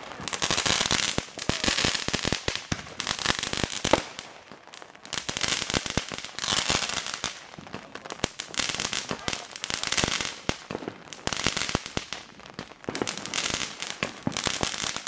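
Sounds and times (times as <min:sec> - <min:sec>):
fireworks cracking and popping: 0:00.0 - 0:15.0
fireworks hiss: 0:00.0 - 0:15.0.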